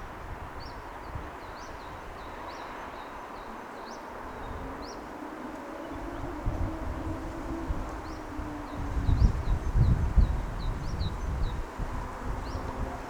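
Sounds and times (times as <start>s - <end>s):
city noise: 0.0s - 13.0s.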